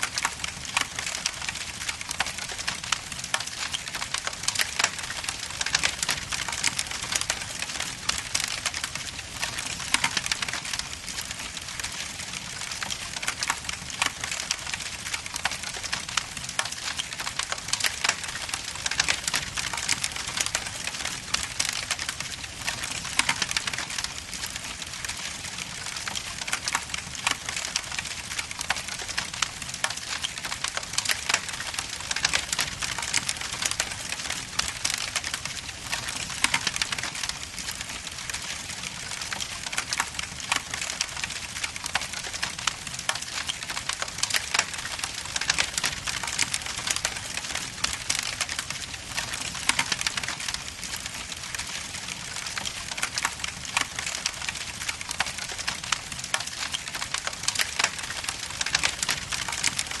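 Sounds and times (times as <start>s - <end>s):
log fire crackling: 0.0s - 60.0s.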